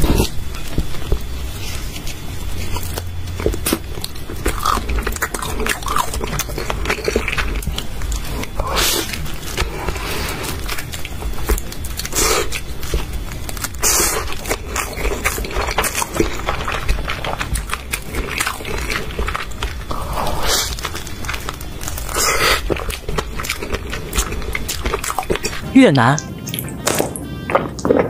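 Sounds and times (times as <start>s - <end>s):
person crunching and chewing: 0.0s - 28.0s.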